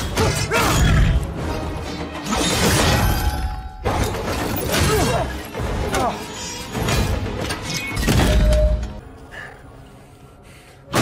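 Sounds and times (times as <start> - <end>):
dramatic film score: 0.0 - 11.0.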